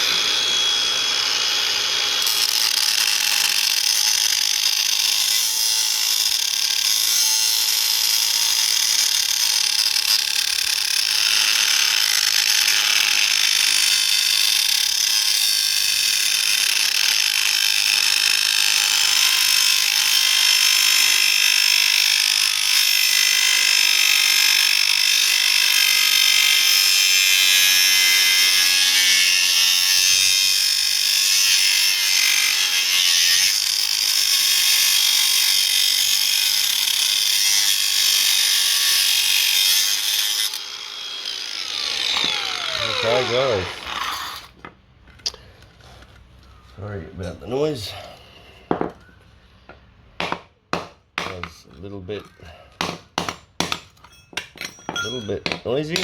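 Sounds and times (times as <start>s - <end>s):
angle grinder cutting brass: 0.0s - 44.6s, 52.1s - 56.0s.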